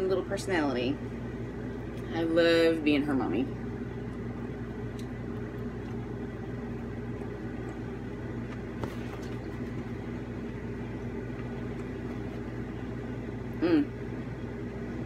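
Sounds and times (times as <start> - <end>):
electrical machine hum: 0.0 - 15.0.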